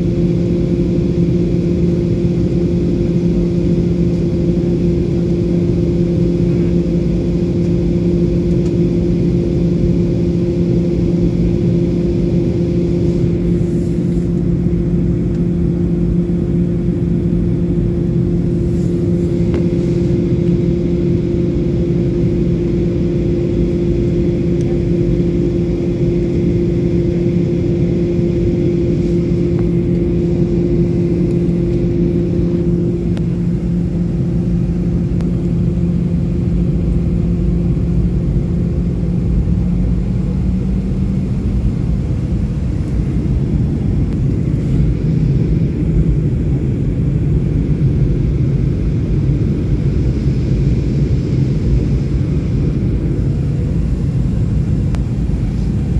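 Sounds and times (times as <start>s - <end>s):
higher steady hum: 0.0s - 55.9s
jet engines droning: 0.0s - 55.9s
lower steady hum: 0.0s - 55.9s.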